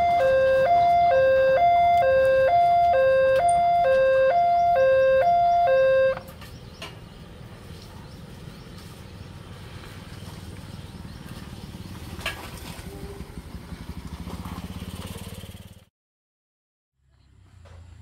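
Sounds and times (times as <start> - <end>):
pulsing engine rumble: 0.0 - 15.9.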